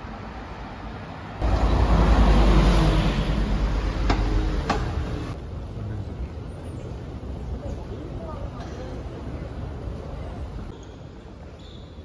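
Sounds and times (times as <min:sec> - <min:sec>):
vehicle rumble and hiss: 0:00.0 - 0:10.7.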